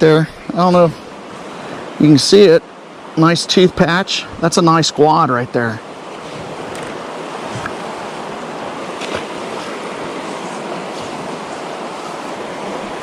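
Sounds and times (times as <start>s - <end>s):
water rushing around kayak: 0.0s - 13.0s.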